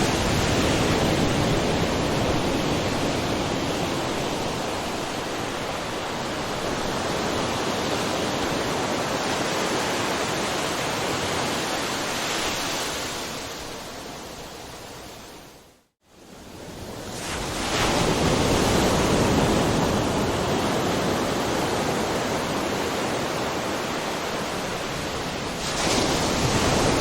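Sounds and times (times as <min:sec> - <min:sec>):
ocean waves on a shore: 0:00.0 - 0:27.0.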